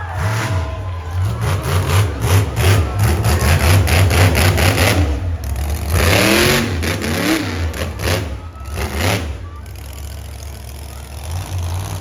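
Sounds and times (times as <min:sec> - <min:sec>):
truck engine running rough: 0:00.0 - 0:12.0.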